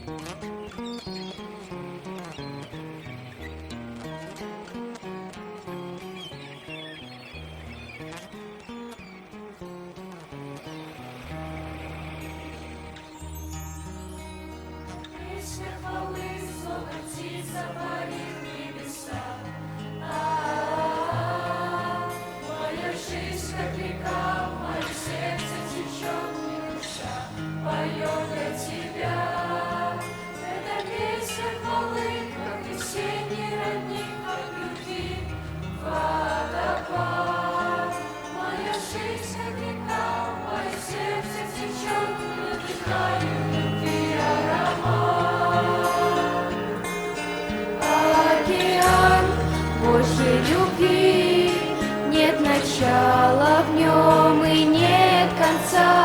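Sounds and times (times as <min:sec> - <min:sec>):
choir singing worship song: 0:10.2 - 0:56.0.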